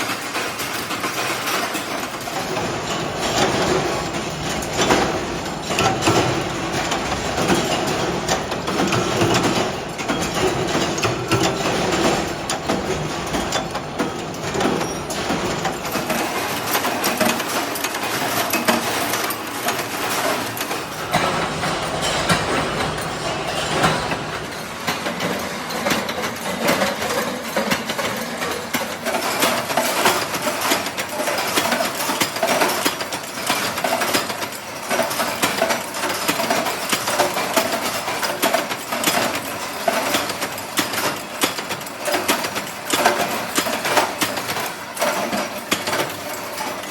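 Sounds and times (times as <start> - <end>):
factory machinery metallic clatter: 0.0 - 46.9.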